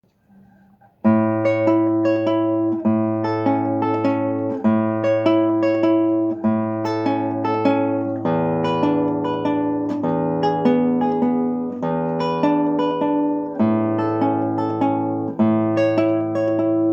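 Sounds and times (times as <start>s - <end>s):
acoustic guitar plucking: 0.3s - 16.9s.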